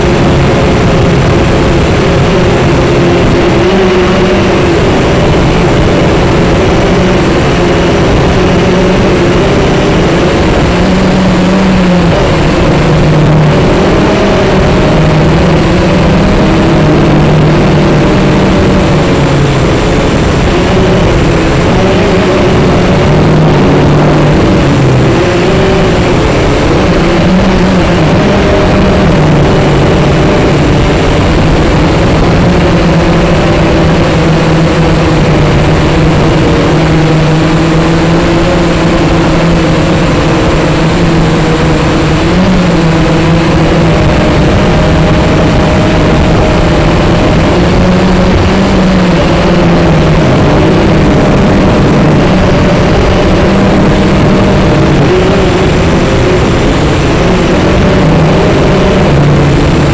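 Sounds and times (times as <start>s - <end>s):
drone motors buzzing: 0.0s - 59.9s.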